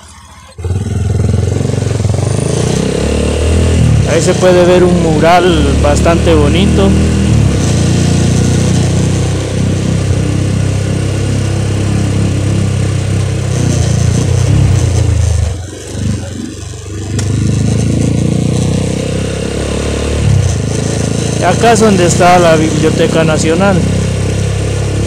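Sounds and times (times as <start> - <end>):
motorcycle engine droning: 0.0 - 25.0.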